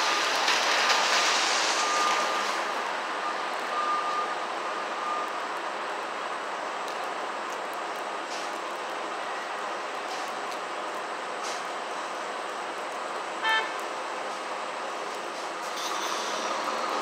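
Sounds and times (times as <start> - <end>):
traffic rushing past: 0.0 - 17.0.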